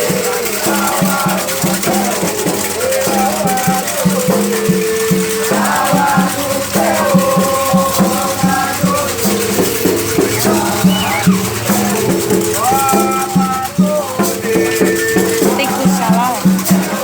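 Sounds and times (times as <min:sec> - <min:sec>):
fast low drum beat: 0:00.0 - 0:17.0
shaken rattle: 0:00.0 - 0:17.0
voices singing: 0:00.0 - 0:17.0.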